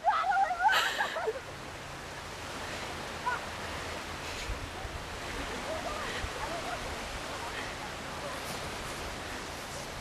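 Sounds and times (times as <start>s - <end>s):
small waves breaking on shore: 0.0s - 10.0s.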